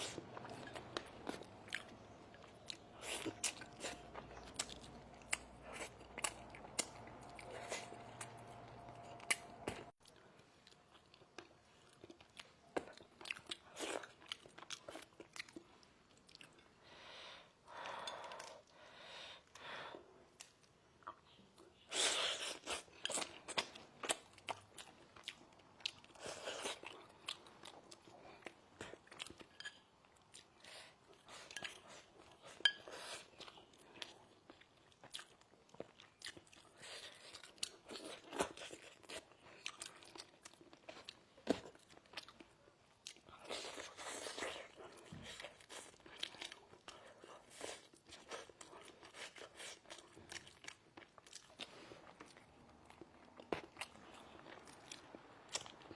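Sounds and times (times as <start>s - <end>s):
person chewing crunchy food: 0.0s - 16.7s, 20.4s - 55.9s.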